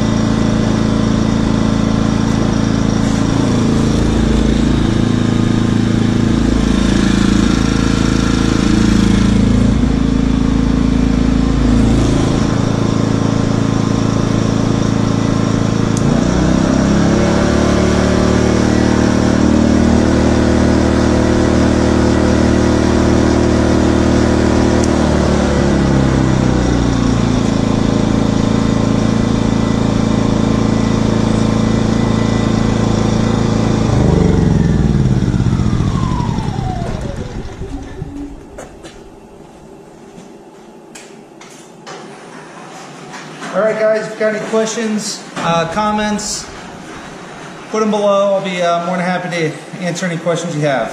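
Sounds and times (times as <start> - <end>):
generator engine running: 0.0 - 41.1.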